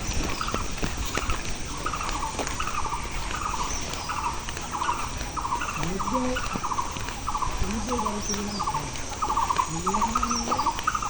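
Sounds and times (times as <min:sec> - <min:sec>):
rattling animal calls: 0:00.0 - 0:11.0.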